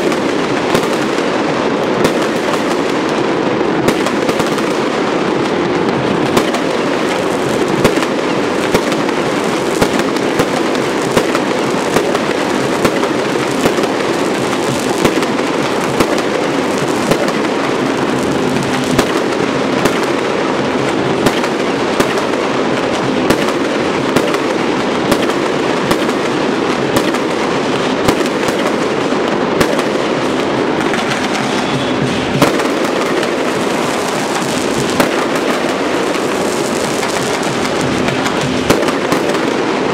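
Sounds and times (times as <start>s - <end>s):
fireworks crackling: 0.0s - 39.9s
loud fireworks bangs: 0.0s - 39.9s.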